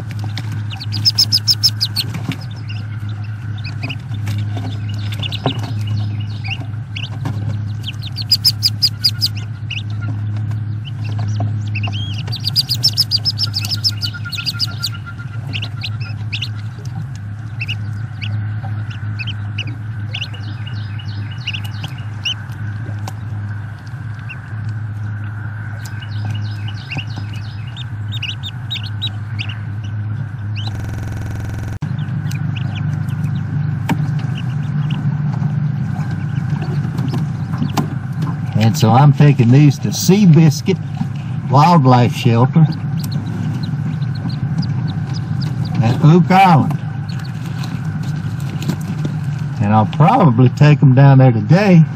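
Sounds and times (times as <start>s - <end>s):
ducklings peeping: 0.0s - 51.9s
low electrical hum: 0.0s - 51.9s.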